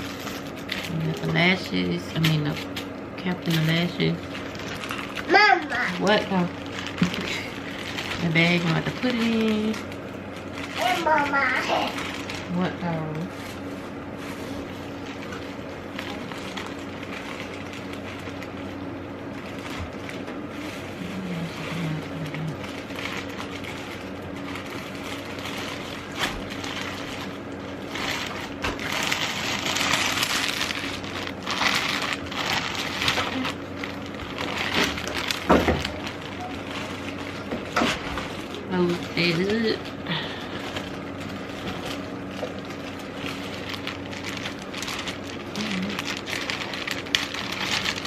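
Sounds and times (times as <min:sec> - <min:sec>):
plastic bag rustling and crinkling: 0:00.0 - 0:48.0
steady low hum: 0:00.0 - 0:48.0.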